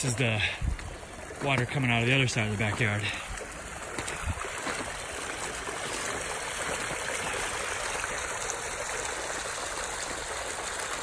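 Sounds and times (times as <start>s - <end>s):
water flowing in a trench: 0.0s - 11.0s.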